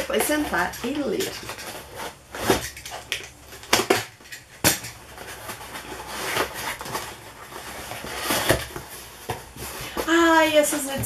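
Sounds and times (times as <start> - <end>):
cardboard and tape crackling: 0.0 - 11.0.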